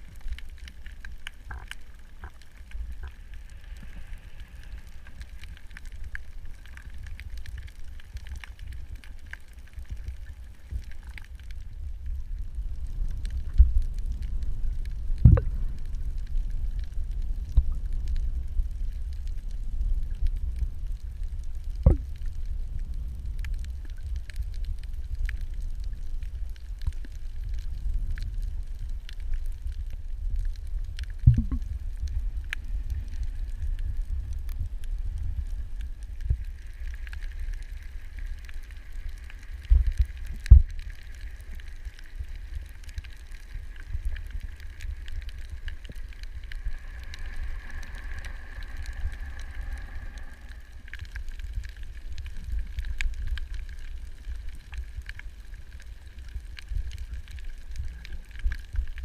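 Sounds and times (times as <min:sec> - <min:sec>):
underwater low rumble: 0:00.0 - 0:59.0.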